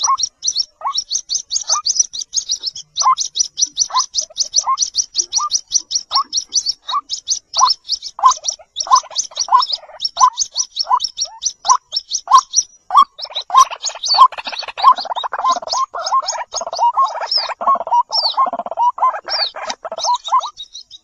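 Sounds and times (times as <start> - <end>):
high-pitched bird chirps: 0.0 - 21.0
waterhens calling: 0.0 - 21.0.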